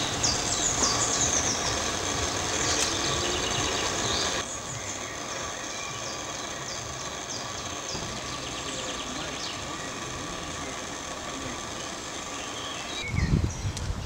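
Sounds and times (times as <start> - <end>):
high bird chirps: 0.0 - 11.1, 11.7 - 13.8
mechanical engine rumble: 0.0 - 14.0.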